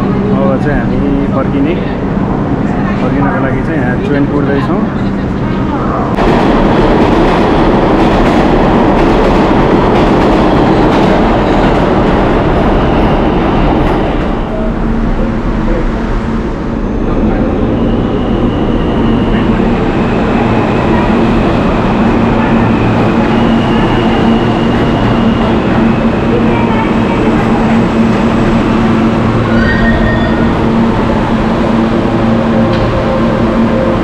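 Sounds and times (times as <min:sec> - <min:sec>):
subway train on rails: 0:00.0 - 0:34.0.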